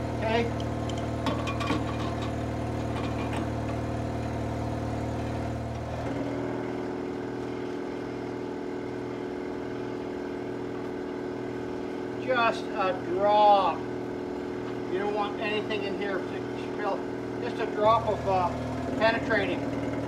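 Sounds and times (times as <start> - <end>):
air compressor humming: 0.0 - 20.0.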